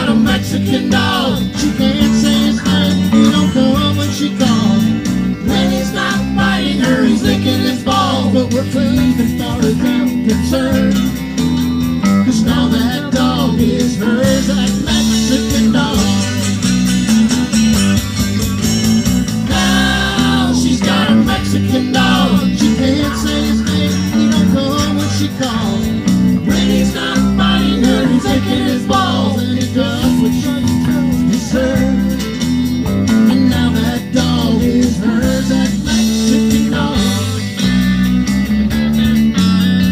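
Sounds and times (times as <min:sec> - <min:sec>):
accordion: 0:00.0 - 0:39.9
bass line: 0:00.0 - 0:39.9
electric guitars: 0:00.0 - 0:39.9.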